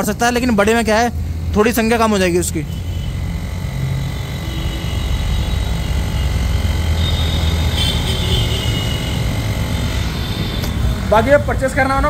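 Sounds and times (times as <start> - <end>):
electric tyre inflator droning: 0.0 - 11.9.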